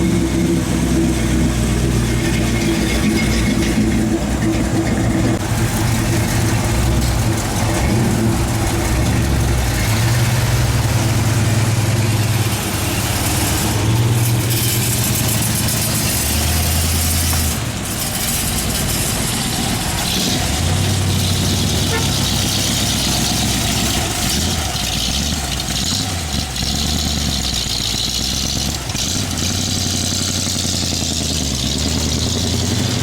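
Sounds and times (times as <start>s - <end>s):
car engines idling: 0.0s - 33.0s.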